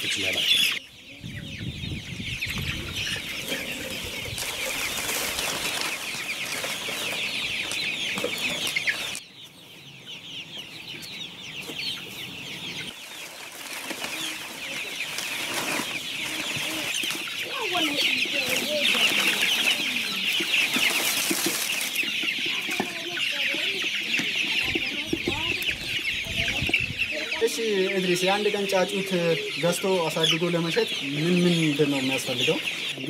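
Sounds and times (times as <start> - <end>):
young chickens chirping: 0.0 - 33.0.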